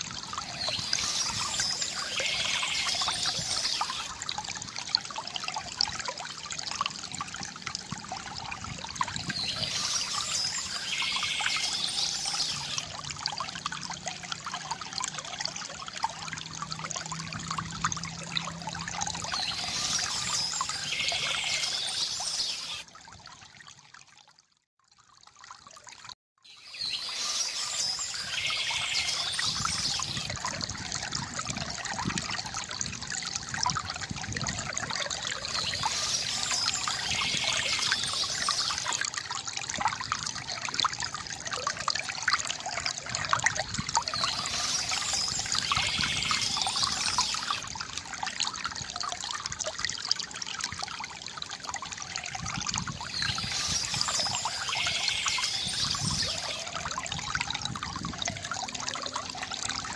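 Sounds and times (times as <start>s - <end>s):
water trickling from fountain: 0.0s - 59.9s.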